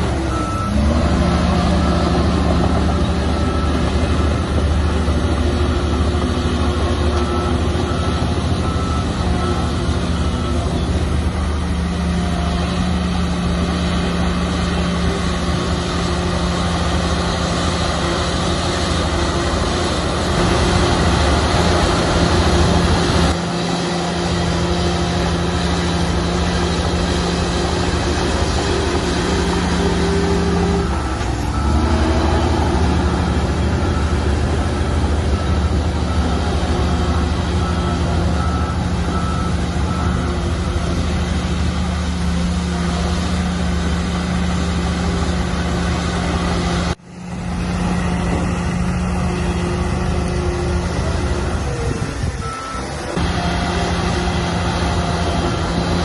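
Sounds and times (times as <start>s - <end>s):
reversing alarm beeping: 0.0s - 19.3s, 20.3s - 44.6s, 48.9s - 56.0s
heavy diesel engine under load: 0.0s - 56.0s.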